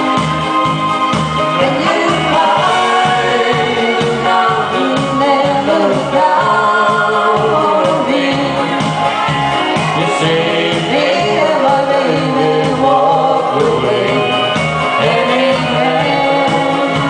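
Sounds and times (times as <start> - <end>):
music with pulsing bass beat: 0.0 - 17.0
man and woman singing duet: 1.4 - 9.0, 9.9 - 17.0.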